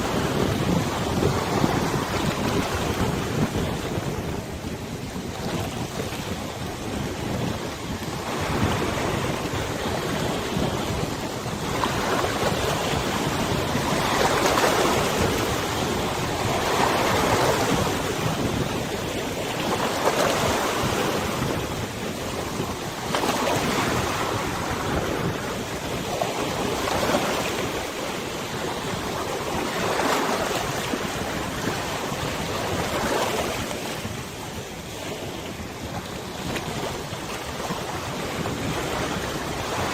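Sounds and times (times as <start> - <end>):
river waves splashing: 0.0 - 39.9
wind on microphone: 0.0 - 39.9.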